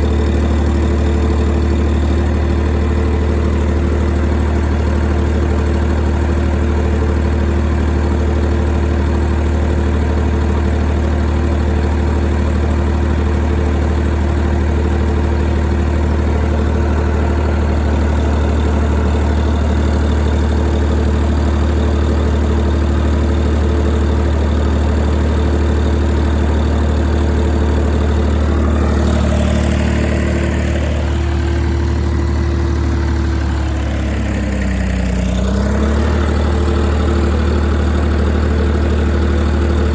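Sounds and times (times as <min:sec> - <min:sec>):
diesel generator humming: 0:00.0 - 0:39.9.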